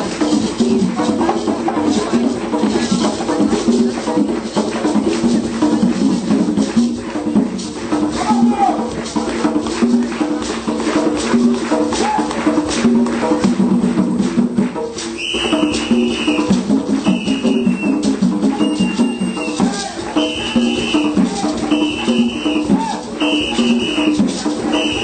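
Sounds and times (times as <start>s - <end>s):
live band melody: 0.0s - 25.0s
rhythmic hand percussion: 0.0s - 25.0s.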